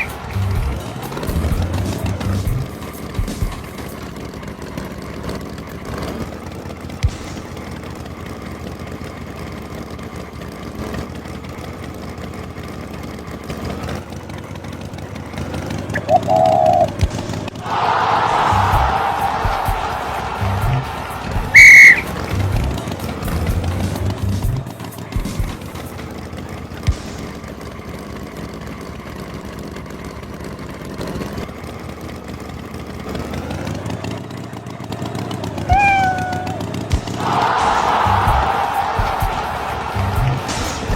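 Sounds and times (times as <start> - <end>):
cartoon tractor engine: 0.0 - 40.9.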